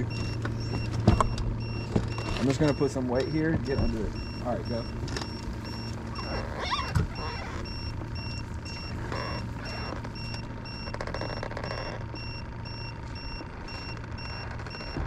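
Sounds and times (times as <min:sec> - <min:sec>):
low motor hum: 0:00.0 - 0:15.0
rapid electronic beeping: 0:00.0 - 0:15.0.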